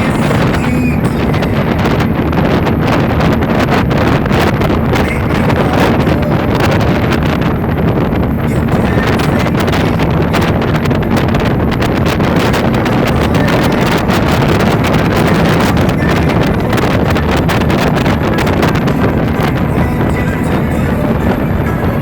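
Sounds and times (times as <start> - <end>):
speedboat running fast: 0.0 - 22.0
wind buffeting microphone: 0.0 - 22.0.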